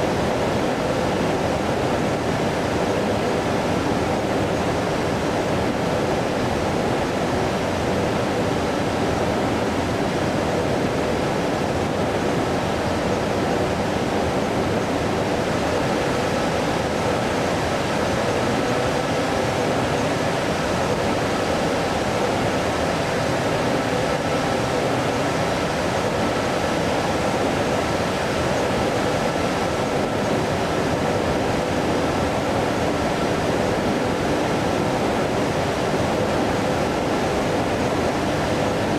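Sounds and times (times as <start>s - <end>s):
faint steady hum: 0.0s - 38.9s
jet engines rushing: 0.0s - 38.9s.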